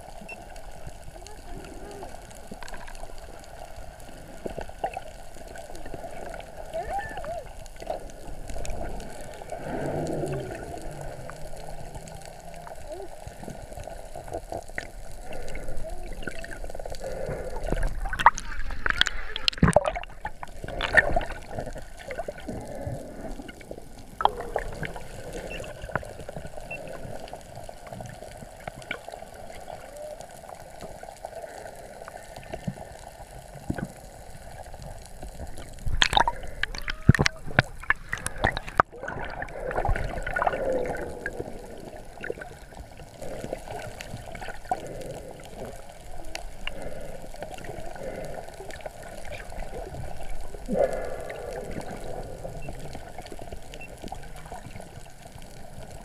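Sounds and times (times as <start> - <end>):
muffled underwater wash: 0.0 - 56.0.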